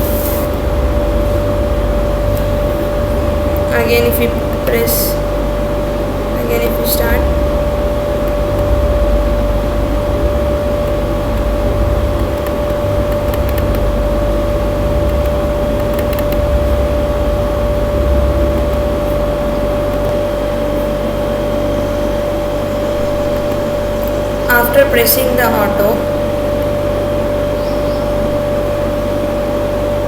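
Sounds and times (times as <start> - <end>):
constant mechanical hum: 0.0 - 30.0
low uneven rumble: 0.0 - 30.0.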